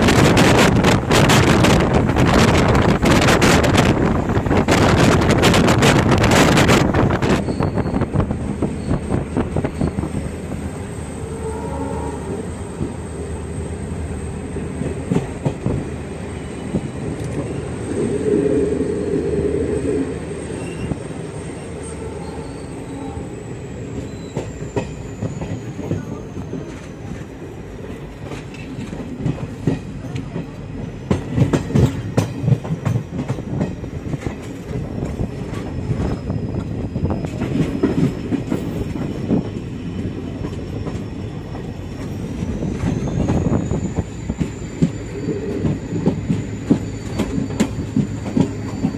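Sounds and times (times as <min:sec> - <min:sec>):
train rumbling on rails: 0:00.0 - 0:48.9.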